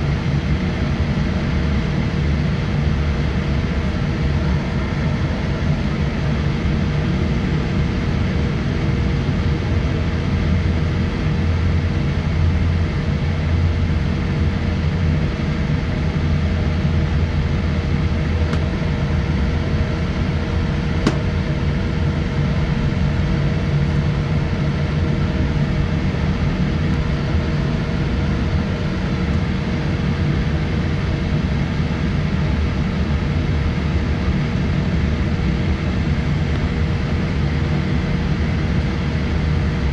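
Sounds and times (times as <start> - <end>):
airplane cabin rumble: 0.0 - 39.9
even hum: 0.0 - 39.9.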